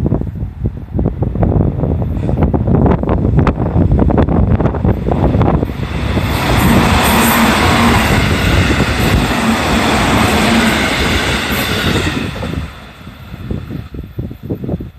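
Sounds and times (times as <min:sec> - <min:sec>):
electric train passing: 0:01.0 - 0:14.9.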